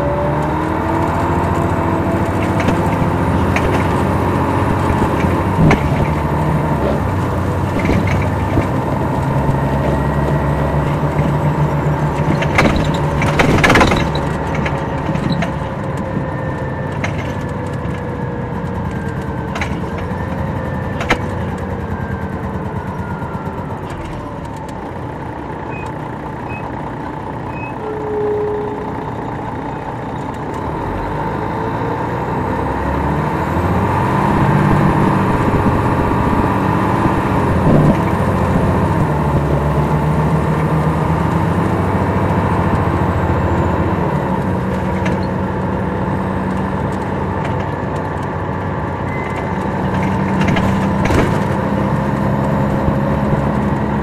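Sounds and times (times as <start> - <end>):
bus engine: 0.0 - 54.0.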